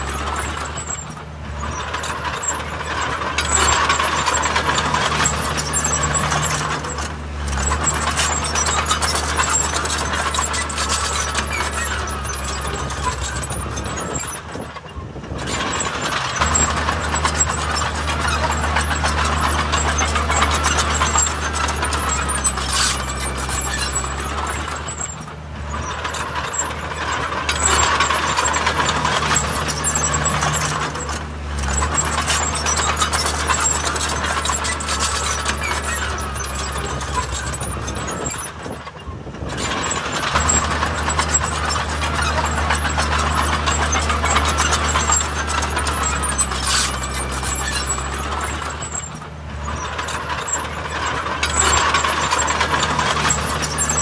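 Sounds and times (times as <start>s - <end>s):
diesel engine drone: 0.0s - 54.0s
metallic clatter: 0.0s - 54.0s.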